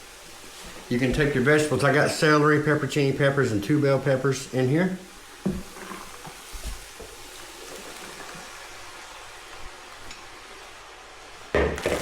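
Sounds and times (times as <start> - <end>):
meat and onions sizzling: 0.0 - 12.0.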